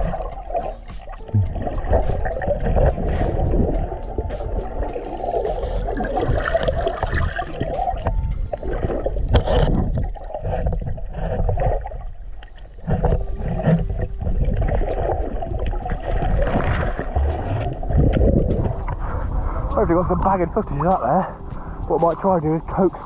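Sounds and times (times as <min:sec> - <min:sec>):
muffled underwater water rushing: 0:00.0 - 0:23.0.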